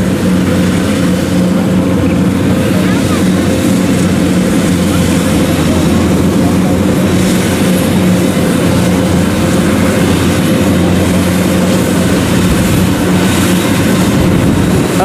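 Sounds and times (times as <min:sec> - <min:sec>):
combine harvester engine humming: 0:00.0 - 0:15.0.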